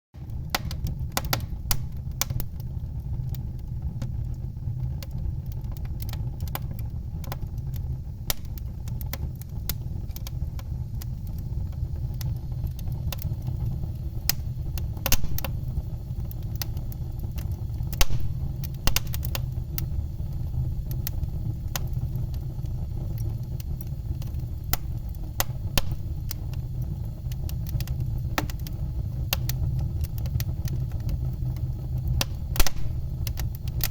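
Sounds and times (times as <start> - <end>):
low rumble of burning: 0.2 - 33.9
wood fire crackling: 0.2 - 33.9.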